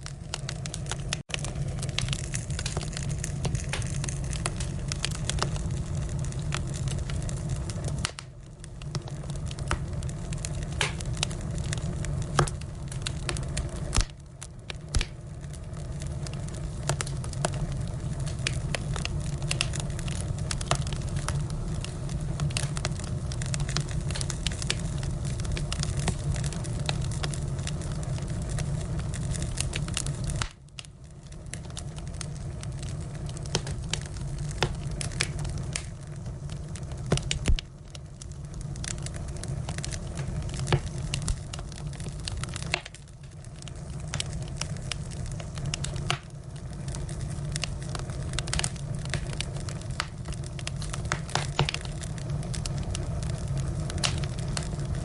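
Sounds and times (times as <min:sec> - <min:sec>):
firewood crackling and popping: 0:00.0 - 0:55.0.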